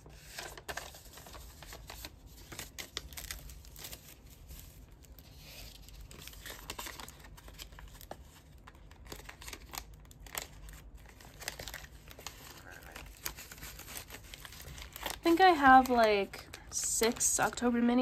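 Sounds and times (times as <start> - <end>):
plastic and mailer crinkling: 0.0 - 18.0.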